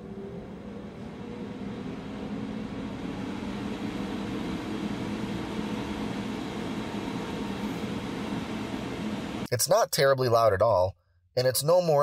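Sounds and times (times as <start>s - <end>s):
cooling fan running: 0.0s - 10.6s.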